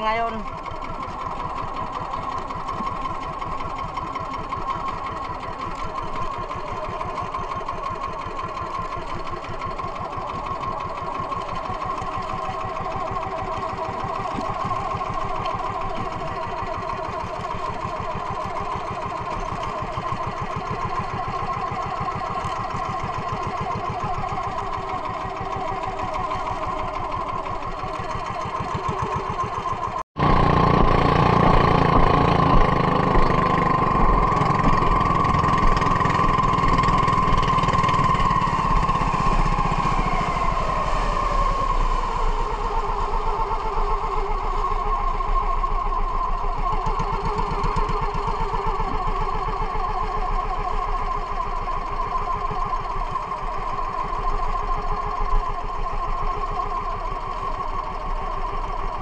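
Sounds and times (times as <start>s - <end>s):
small boat engine running: 0.0s - 59.0s.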